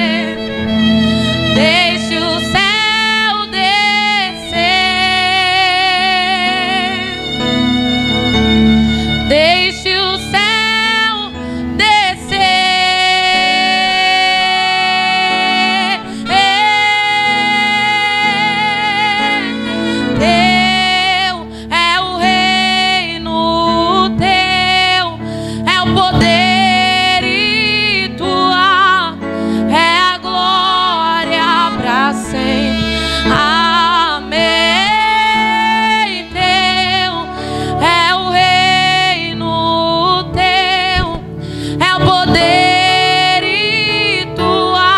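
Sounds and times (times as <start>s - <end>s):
woman singing: 0.0s - 0.5s, 1.6s - 7.3s, 9.3s - 44.9s
instrumental backing music: 0.0s - 44.9s.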